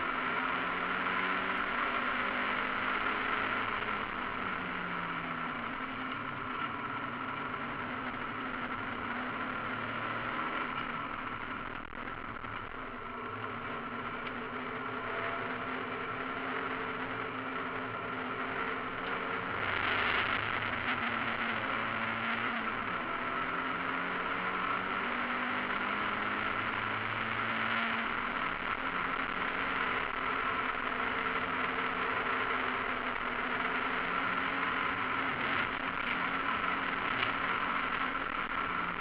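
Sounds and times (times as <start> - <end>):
race car engine at speed: 0.0 - 39.0
road and wind noise: 0.0 - 39.0.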